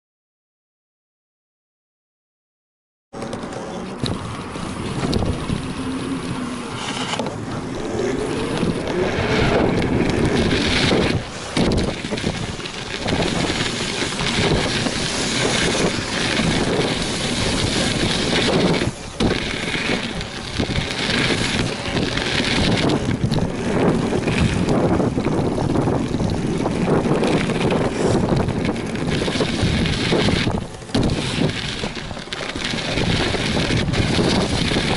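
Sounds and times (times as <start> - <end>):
rolling rumble of bike: 3.2 - 34.9
wind buffeting microphone: 3.8 - 34.9.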